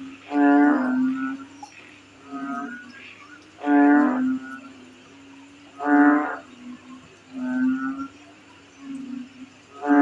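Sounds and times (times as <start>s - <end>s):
crickets chirring: 0.0s - 10.0s
frogs croaking: 0.0s - 10.0s.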